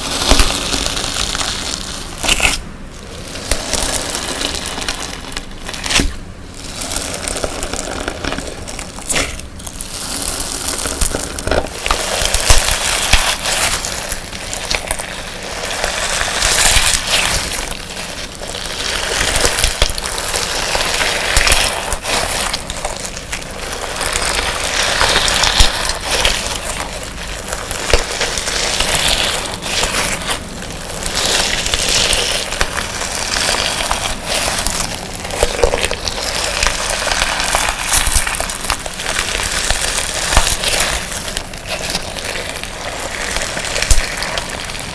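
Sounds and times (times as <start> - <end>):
slime crackling and popping: 0.0 - 44.9.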